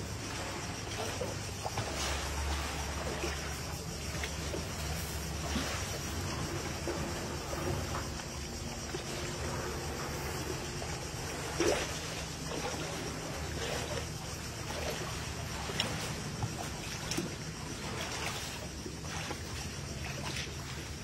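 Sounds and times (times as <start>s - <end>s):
water lapping against rocks: 0.0s - 21.0s
water splashing: 0.0s - 21.0s.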